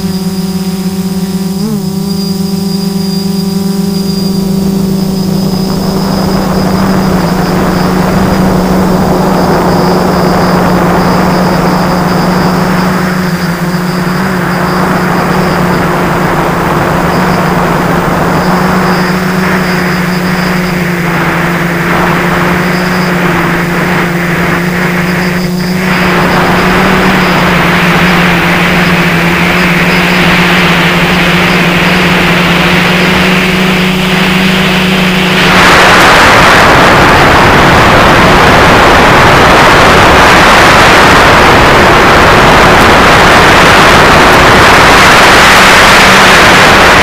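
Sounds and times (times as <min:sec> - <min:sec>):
drone motors humming: 0:00.0 - 0:47.0
rush of air noise: 0:00.0 - 0:47.0.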